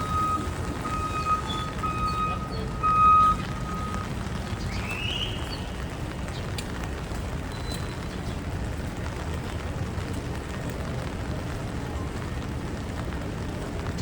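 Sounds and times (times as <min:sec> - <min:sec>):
passing traffic rumble: 0:00.0 - 0:14.0
rain on wet road: 0:00.0 - 0:14.0.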